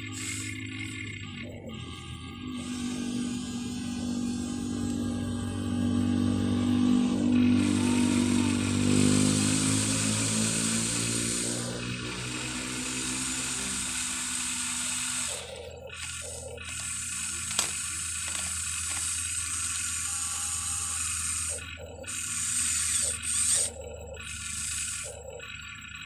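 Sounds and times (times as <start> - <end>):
toy excavator motors whirring: 0.0 - 26.0.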